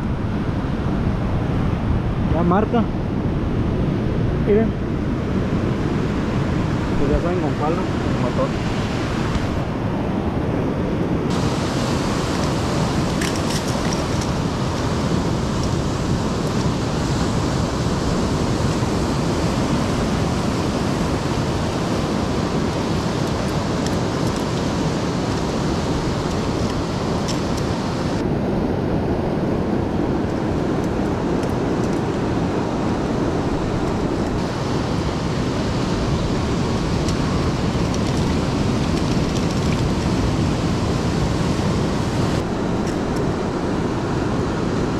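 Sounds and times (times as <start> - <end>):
sea waves and surf: 0.0 - 44.9
wind buffeting microphone: 0.0 - 44.9.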